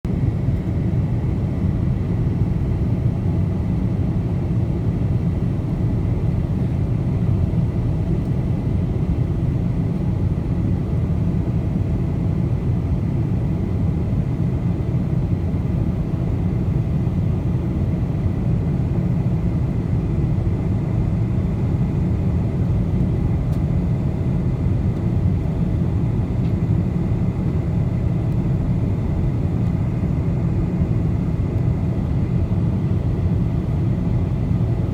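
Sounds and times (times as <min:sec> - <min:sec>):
airliner cabin engine rumble: 0:00.1 - 0:34.9.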